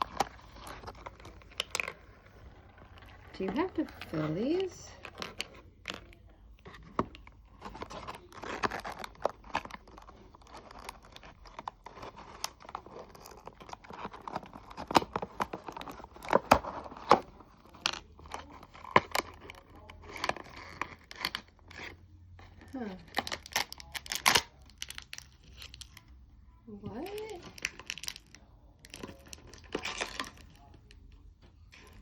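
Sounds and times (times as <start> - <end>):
packaging tearing and crinkling: 0.0 - 22.0, 22.7 - 26.0, 27.0 - 30.7.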